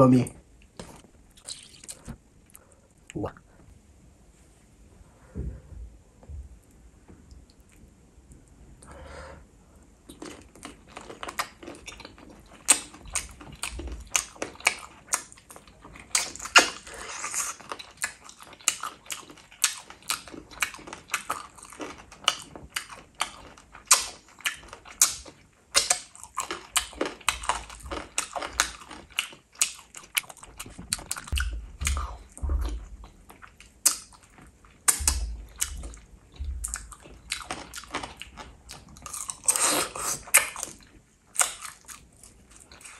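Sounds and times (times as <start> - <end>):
person chewing wetly: 0.6 - 2.6, 10.1 - 42.9.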